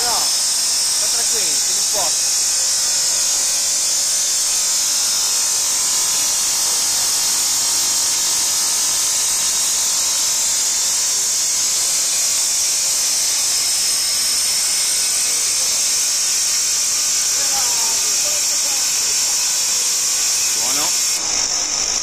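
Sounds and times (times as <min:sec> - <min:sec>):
hydraulic pump motor hiss: 0:00.0 - 0:22.0.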